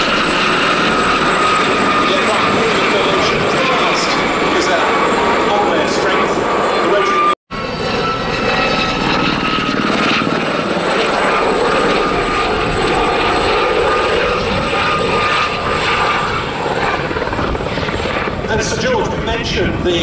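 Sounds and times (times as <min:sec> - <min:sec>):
helicopter rotor chop: 0:00.0 - 0:20.0
turbine whine: 0:00.0 - 0:20.0.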